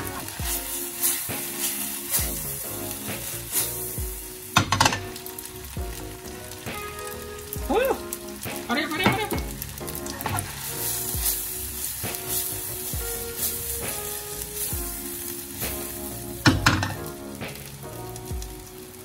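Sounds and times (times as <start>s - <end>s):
background music: 0.0s - 19.0s
egg sizzling in a frying pan: 0.0s - 19.0s.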